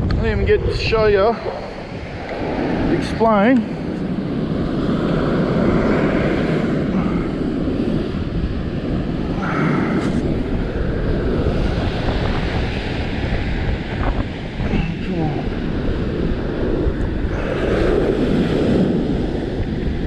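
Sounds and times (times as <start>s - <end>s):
surf washing on beach: 0.0s - 20.0s
wind on microphone: 0.0s - 20.0s.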